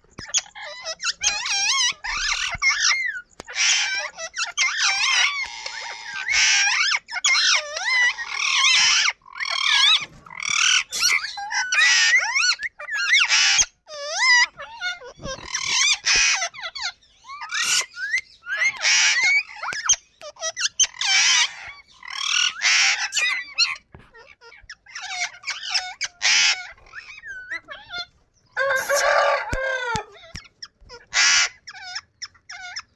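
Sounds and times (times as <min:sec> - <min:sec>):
parakeets screeching: 0:00.0 - 0:32.9.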